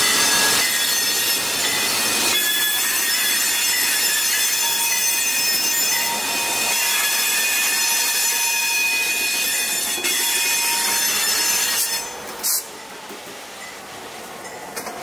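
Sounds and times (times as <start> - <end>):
train wheels squealing: 0.0 - 12.7
rumble of rail cars: 0.0 - 15.0.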